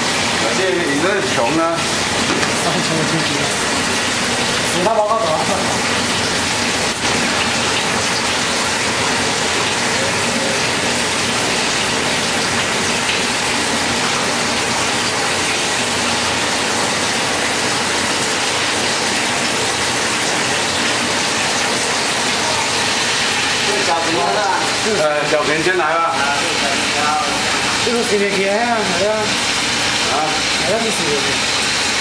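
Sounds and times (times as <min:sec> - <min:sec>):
water jets spraying bottles: 0:00.0 - 0:32.0.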